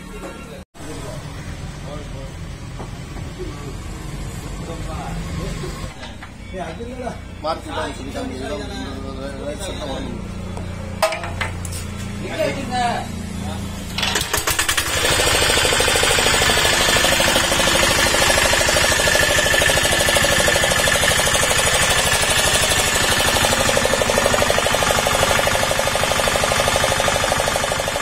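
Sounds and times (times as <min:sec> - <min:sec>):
diesel engine running: 0:00.8 - 0:28.0.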